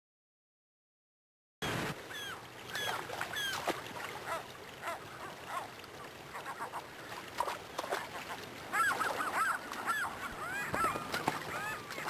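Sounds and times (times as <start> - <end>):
birds calling: 1.6 - 12.0.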